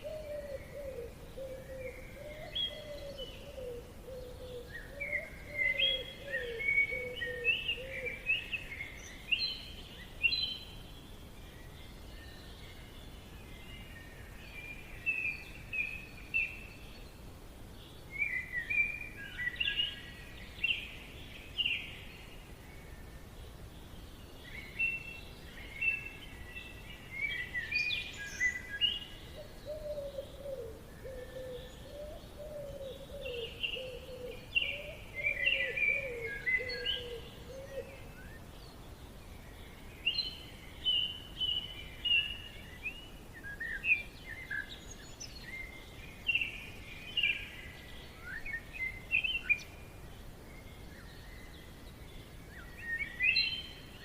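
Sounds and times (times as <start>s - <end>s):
birds chirping and trilling: 0.0s - 54.0s
faint background hiss: 0.0s - 54.0s.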